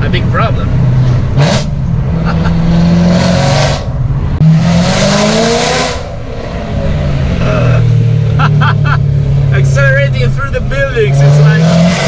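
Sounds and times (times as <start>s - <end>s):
car engine droning and revving: 0.0s - 12.0s.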